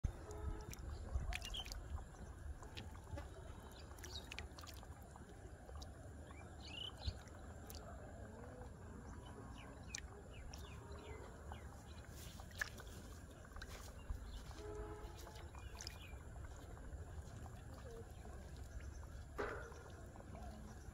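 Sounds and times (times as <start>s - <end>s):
hand splashing in muddy water: 0.2s - 6.0s, 9.4s - 20.9s.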